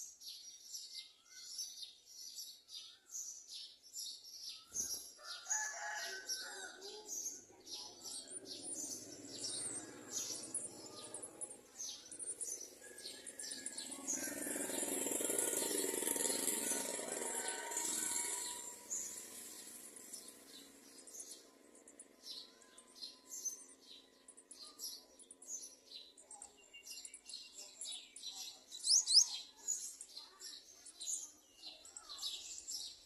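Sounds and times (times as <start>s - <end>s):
birds chirping: 4.5s - 33.0s.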